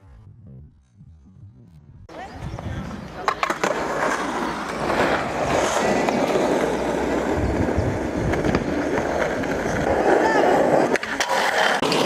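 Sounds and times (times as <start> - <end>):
skateboard wheels rolling on asphalt: 2.1 - 12.0.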